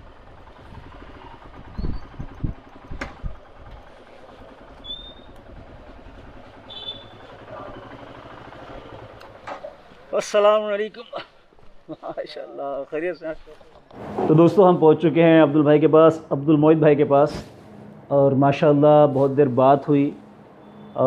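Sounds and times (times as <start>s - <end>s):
roadside traffic noise: 0.0s - 21.0s.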